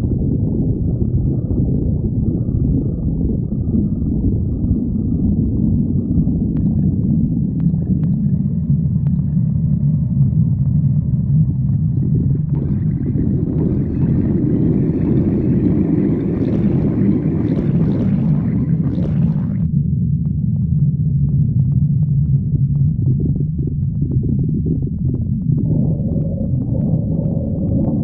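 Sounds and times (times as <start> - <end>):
stomach growling: 0.0 - 28.0.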